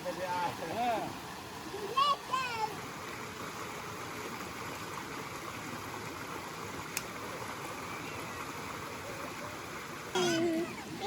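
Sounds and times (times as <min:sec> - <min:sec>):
stream water running over rocks: 0:00.0 - 0:11.0.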